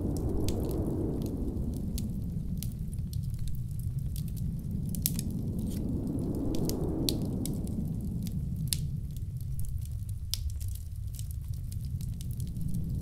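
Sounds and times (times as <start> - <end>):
blizzard wind rumble: 0.0 - 13.0
log fire crackling and popping: 0.0 - 13.0.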